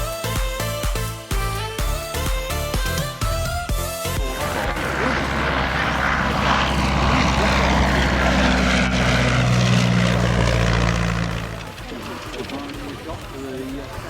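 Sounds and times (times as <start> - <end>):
propeller aircraft engine droning: 1.8 - 14.0.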